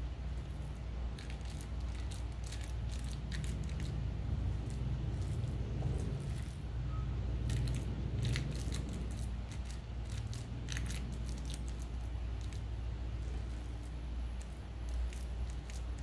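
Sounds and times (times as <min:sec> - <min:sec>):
sharp clicks and crackles: 0:00.4 - 0:06.6, 0:07.4 - 0:16.0.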